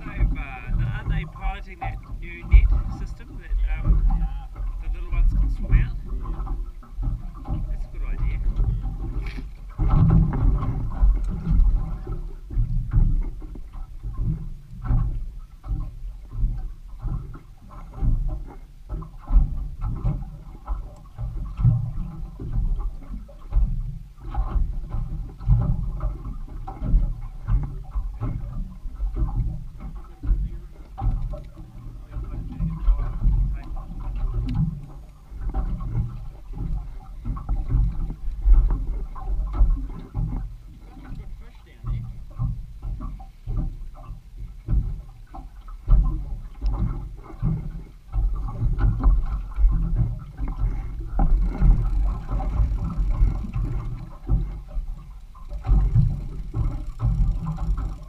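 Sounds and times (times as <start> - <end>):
small waves slapping a boat hull: 0.0 - 58.0
wind buffeting microphone: 0.0 - 58.0.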